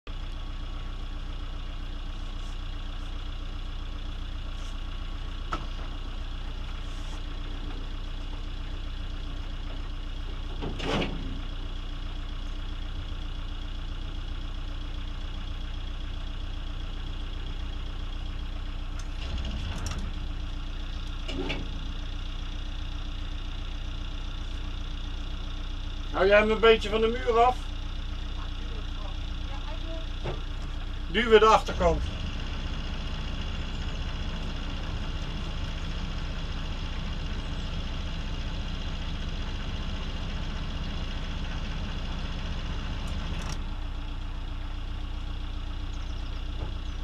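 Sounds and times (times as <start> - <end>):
boat engine idling: 0.1 - 10.6, 11.3 - 19.2, 20.0 - 47.0.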